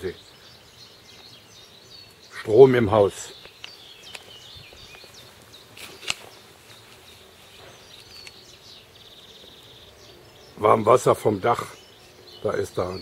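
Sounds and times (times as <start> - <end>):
buzzy bird trill: 0.0 - 13.0
small birds chirping: 0.0 - 13.0.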